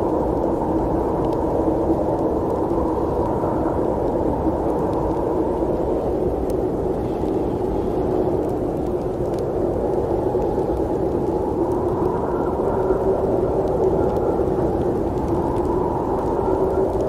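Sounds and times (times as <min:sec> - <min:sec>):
faint ticks: 0:00.0 - 0:17.0
snowstorm wind rushing: 0:00.0 - 0:17.0.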